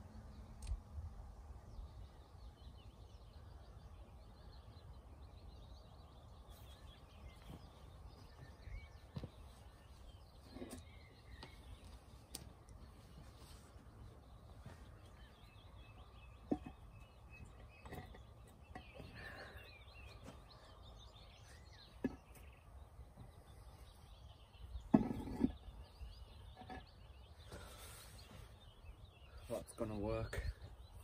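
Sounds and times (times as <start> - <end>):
birds chirping faintly: 0.0 - 31.0.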